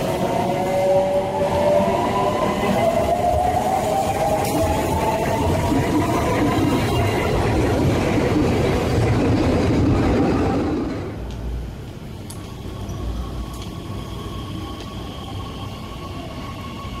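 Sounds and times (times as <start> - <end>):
electric train rumbling: 0.0 - 17.0
metro train humming and whining: 0.0 - 17.0.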